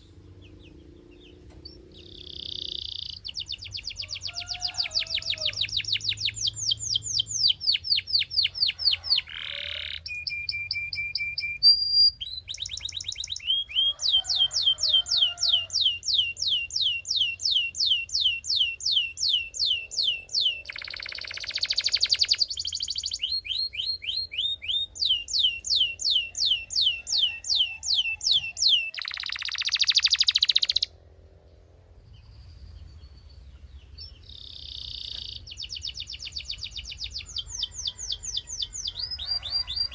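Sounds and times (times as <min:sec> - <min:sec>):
canary singing trills: 0:00.0 - 0:31.0, 0:32.0 - 0:39.9.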